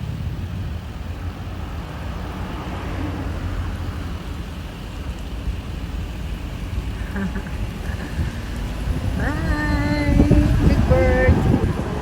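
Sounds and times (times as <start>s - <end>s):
truck wash machine rumbling: 0.0s - 12.0s.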